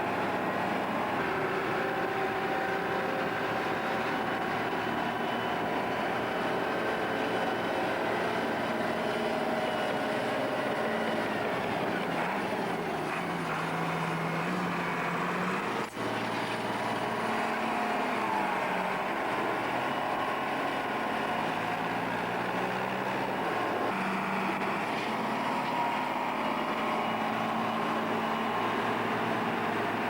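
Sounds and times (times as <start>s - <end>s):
heavy diesel farm machinery running: 0.0s - 30.0s.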